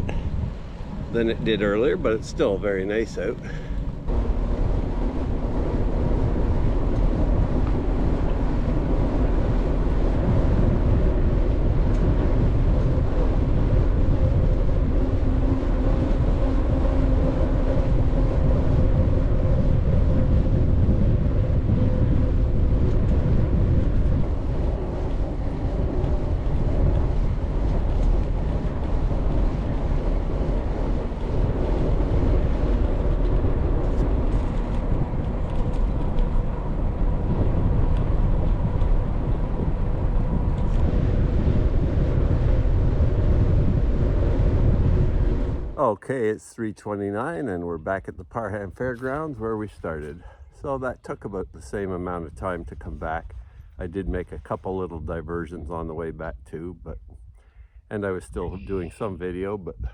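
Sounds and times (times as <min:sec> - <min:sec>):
road rumble: 0:00.0 - 0:59.9
wind rush on microphone: 0:00.0 - 0:59.9.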